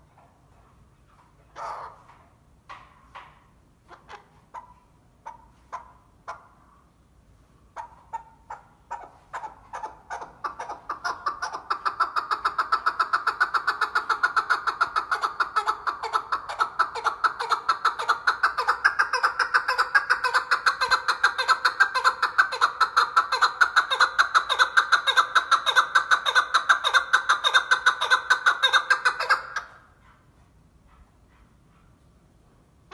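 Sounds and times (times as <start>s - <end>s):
partridge clucking calls: 1.5s - 6.6s, 7.8s - 29.8s.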